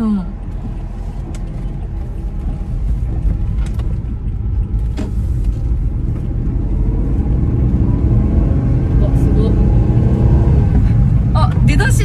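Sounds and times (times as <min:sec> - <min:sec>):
car engine droning: 0:00.0 - 0:12.0
road rumble: 0:00.0 - 0:12.0.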